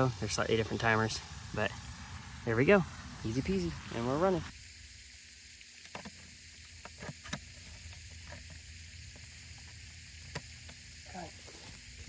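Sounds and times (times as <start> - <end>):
fountain water spray hiss: 0.0 - 12.0.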